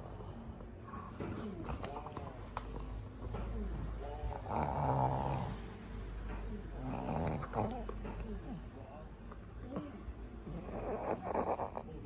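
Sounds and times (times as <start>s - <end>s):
dog snoring: 0.0s - 8.7s, 9.6s - 12.0s.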